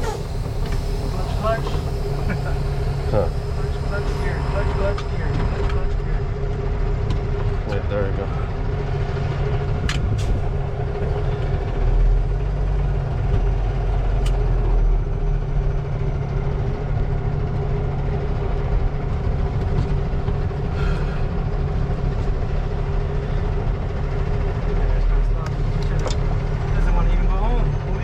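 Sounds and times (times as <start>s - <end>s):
diesel engine running at low revs: 0.0s - 28.0s.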